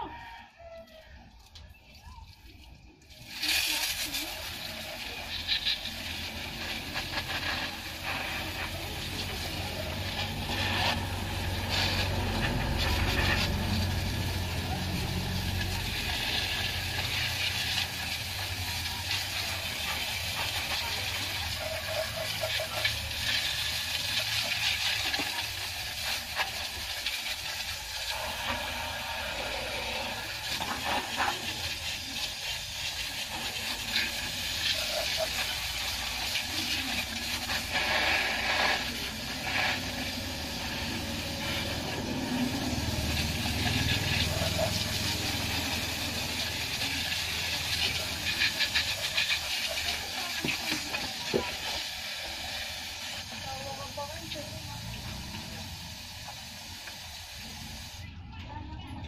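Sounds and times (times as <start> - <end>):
hose spraying water: 0.0 - 58.2.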